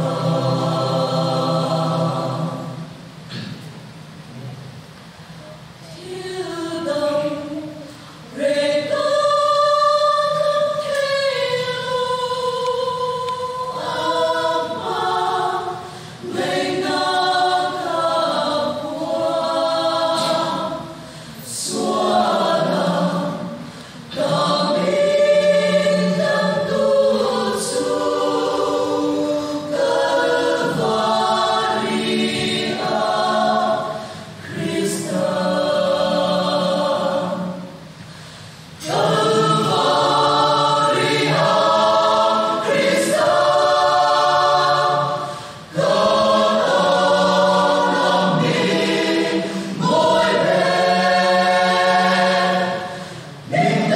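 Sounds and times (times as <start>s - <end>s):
women's choir singing a hymn: 0.0s - 3.5s, 5.9s - 38.0s, 38.7s - 53.9s.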